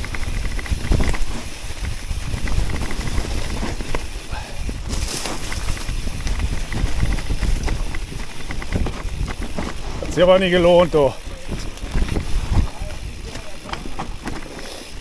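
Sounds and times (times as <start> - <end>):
bike rattling over bumps: 0.0 - 15.0
tyres rolling over wet leaves: 0.0 - 15.0.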